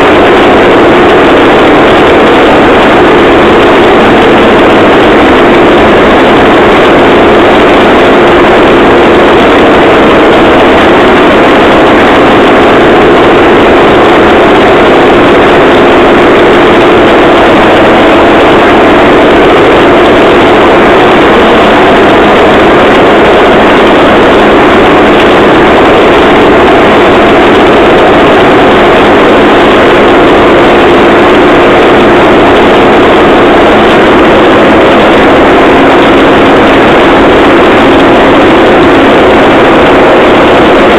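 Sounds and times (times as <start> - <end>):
rail trolley engine running: 0.0 - 40.9.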